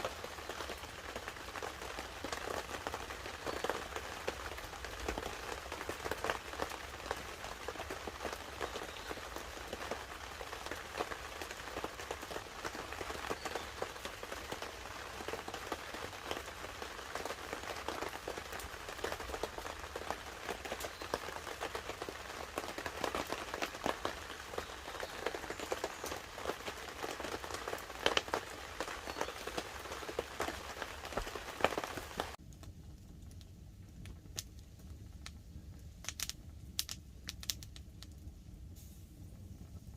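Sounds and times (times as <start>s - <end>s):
rain pattering on a tarp: 0.0s - 39.9s
wood fire crackling: 0.0s - 39.9s.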